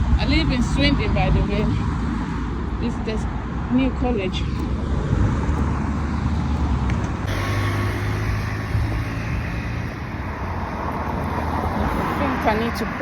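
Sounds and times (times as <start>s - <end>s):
road traffic passing: 0.0s - 13.0s
vehicle engine hum: 0.0s - 13.0s.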